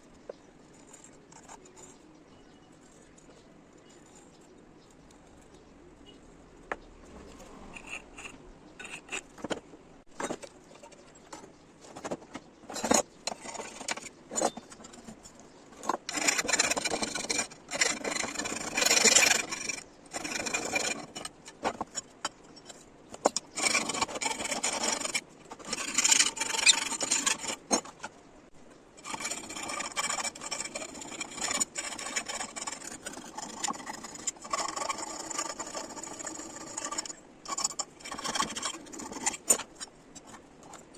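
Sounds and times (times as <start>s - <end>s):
hand tool scraping metal: 7.1s - 28.1s, 29.0s - 40.9s.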